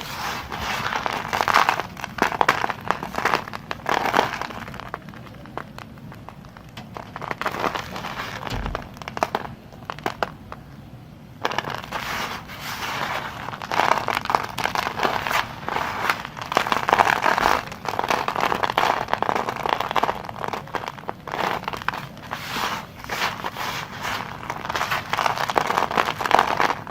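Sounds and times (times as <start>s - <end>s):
blade cutting soap crackling: 0.0s - 10.8s, 11.4s - 26.9s.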